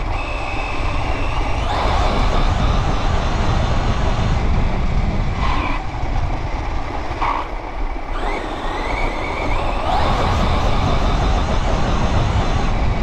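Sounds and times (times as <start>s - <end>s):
electric motor whine: 0.0s - 6.0s, 7.2s - 13.0s.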